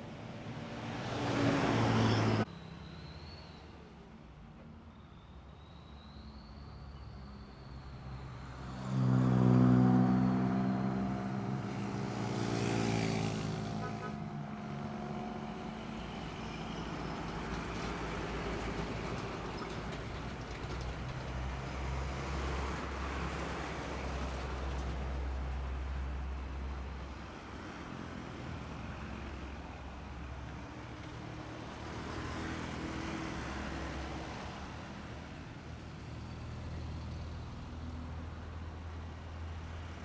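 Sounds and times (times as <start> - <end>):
passing road traffic: 0.0 - 40.0.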